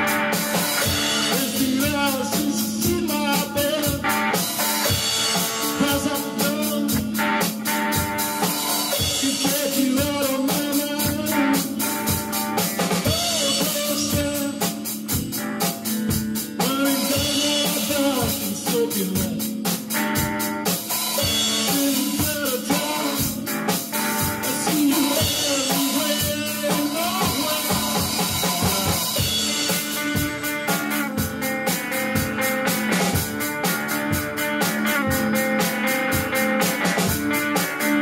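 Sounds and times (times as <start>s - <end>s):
drum kit beat: 0.0s - 38.0s
electric guitar: 0.0s - 38.0s
rock band playing: 0.0s - 38.0s.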